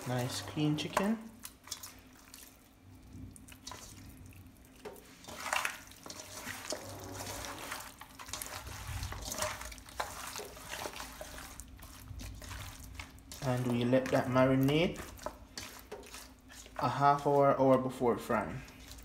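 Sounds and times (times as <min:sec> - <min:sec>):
hands squishing raw chicken: 0:00.0 - 0:19.0.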